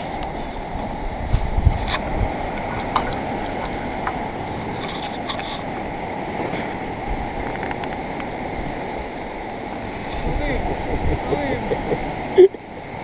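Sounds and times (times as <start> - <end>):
surf breaking on rocks: 0.0 - 13.0.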